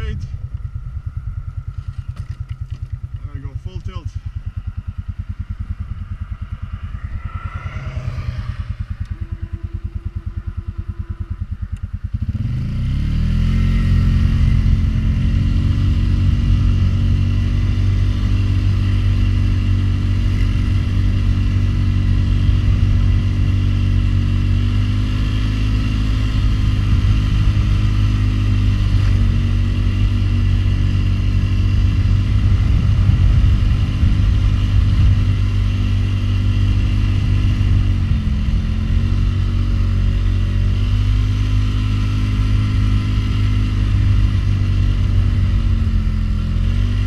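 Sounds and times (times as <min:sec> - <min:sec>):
atv engine idling and revving: 0:00.0 - 0:47.0.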